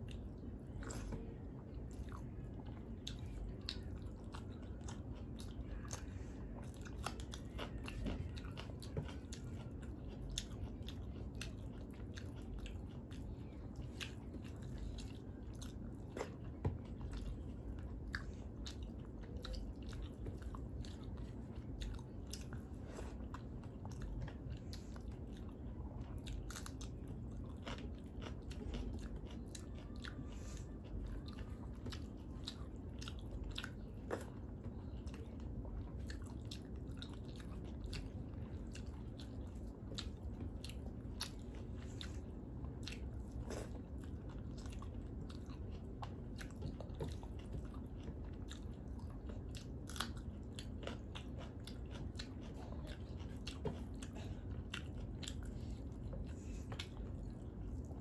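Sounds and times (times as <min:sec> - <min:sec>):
chewing with mouth smacks: 0:00.0 - 0:58.0.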